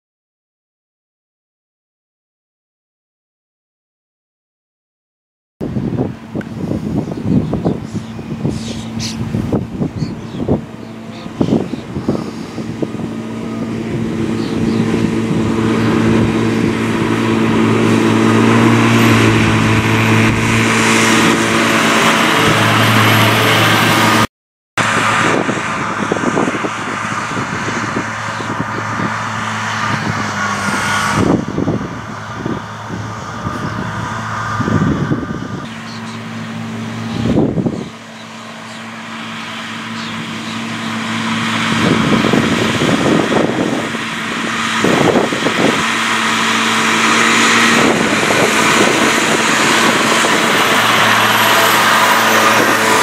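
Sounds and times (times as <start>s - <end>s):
disc mower running: 5.6s - 53.0s
tractor diesel engine under load: 5.6s - 53.0s.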